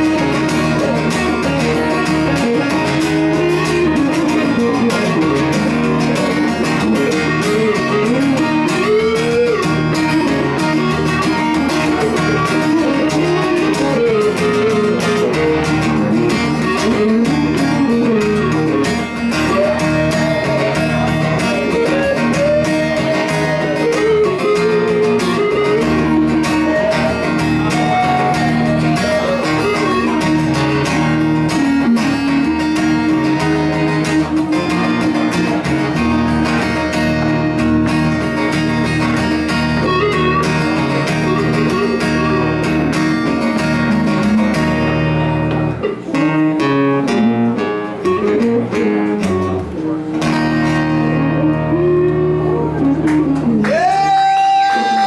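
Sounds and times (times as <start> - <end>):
band rhythm section: 0.0 - 55.0
lead guitar bending notes: 0.0 - 55.0
strummed guitar: 0.0 - 55.0.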